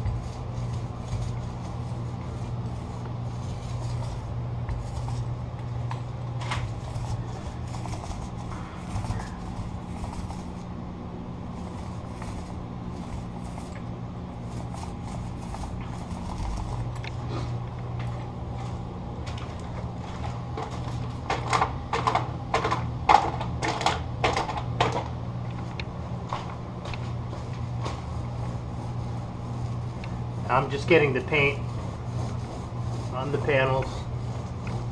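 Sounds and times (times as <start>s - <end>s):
paint roller and tools handled: 0.0s - 10.7s, 11.5s - 25.7s, 26.3s - 34.9s
low hum: 0.0s - 34.9s.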